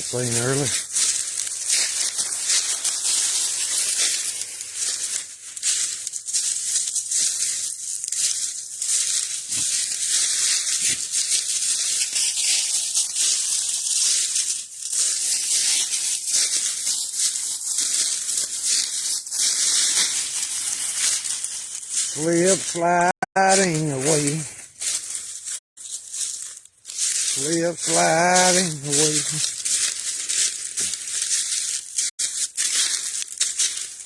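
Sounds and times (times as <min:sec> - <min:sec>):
footsteps through dry leaves: 0:00.0 - 0:34.0.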